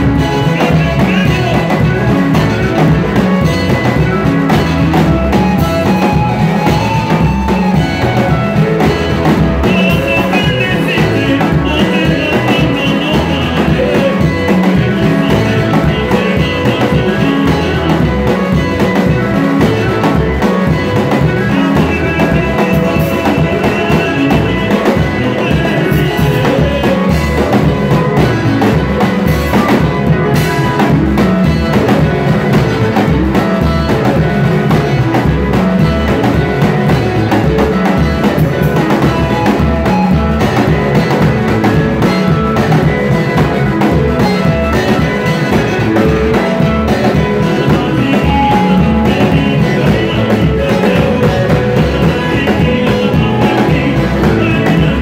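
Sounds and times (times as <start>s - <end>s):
drum kit beat: 0.0s - 55.0s
electric guitar lines: 0.0s - 55.0s.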